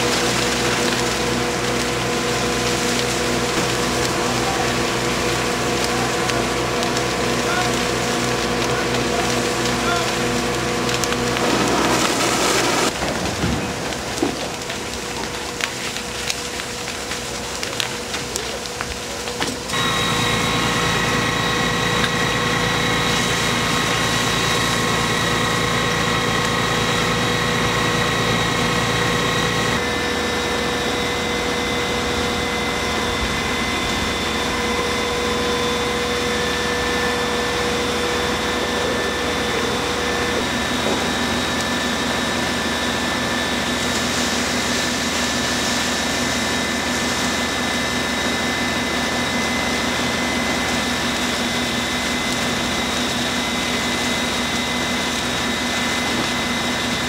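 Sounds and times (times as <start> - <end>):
fire engine pumps droning: 0.0 - 57.0.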